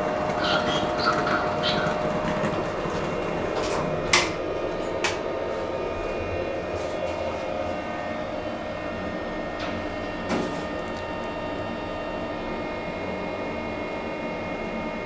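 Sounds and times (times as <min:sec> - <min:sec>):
mechanical hum with whining: 0:00.0 - 0:15.0.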